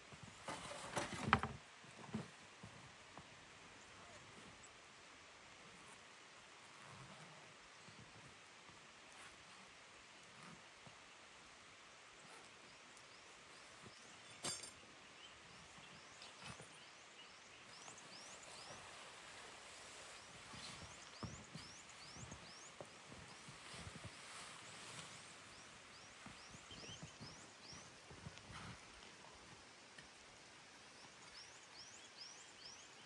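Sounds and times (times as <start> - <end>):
soft steady outdoor hiss: 0.0 - 33.0.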